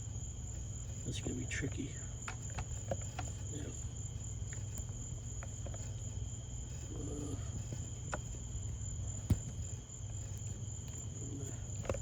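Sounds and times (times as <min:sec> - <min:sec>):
faint high-pitched whine: 0:00.0 - 0:12.0
steady low hum: 0:00.0 - 0:12.0.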